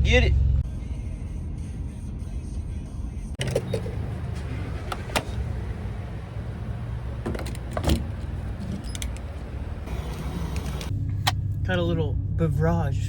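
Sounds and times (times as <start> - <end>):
truck engine and road hum: 0.0 - 13.0.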